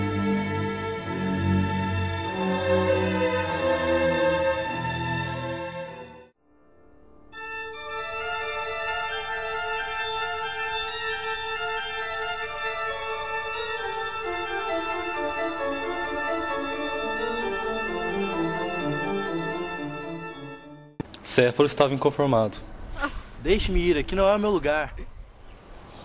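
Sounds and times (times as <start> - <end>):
organ music: 0.0 - 22.9.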